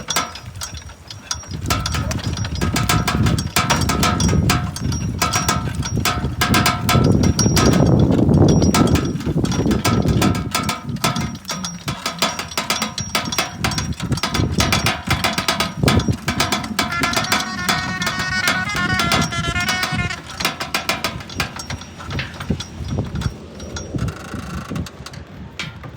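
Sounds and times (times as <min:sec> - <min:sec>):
metallic clinking and jingling: 0:00.0 - 0:24.1.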